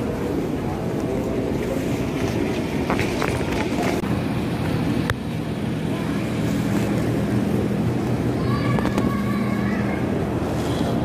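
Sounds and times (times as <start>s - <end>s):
air handling rumble: 0.0s - 11.0s
low steady hum: 0.0s - 11.0s.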